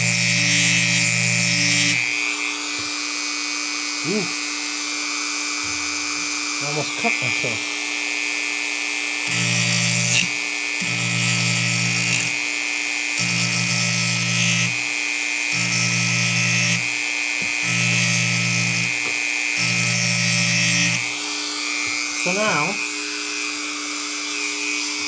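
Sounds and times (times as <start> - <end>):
rotary tool high whine: 0.0 - 25.0.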